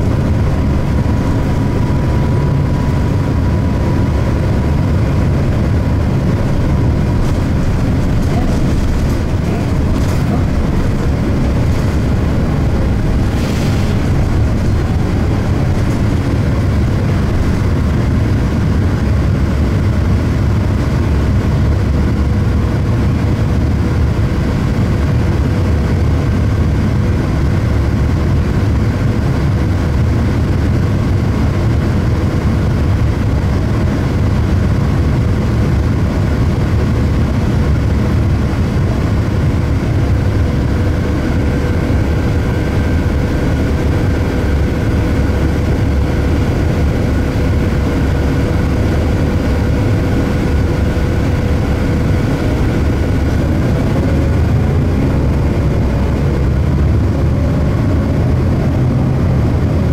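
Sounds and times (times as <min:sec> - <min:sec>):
faint steady whine: 0:00.0 - 0:25.6, 0:27.4 - 0:59.9
bus engine idling: 0:00.0 - 0:59.9
bus pulling away: 0:00.0 - 0:59.9.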